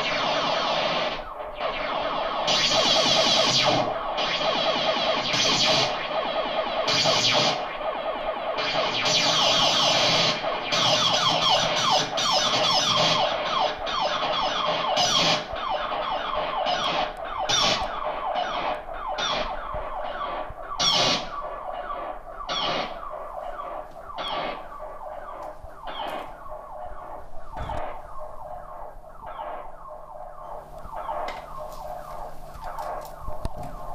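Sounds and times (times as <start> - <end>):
electronic siren tone sweeping in pitch: 0.0 - 33.9.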